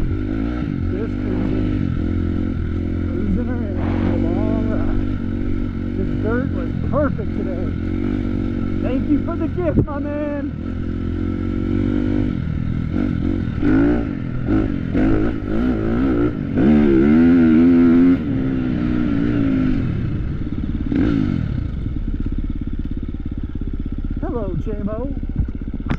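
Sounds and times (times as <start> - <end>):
dirt bike engine revving: 0.0 - 25.3.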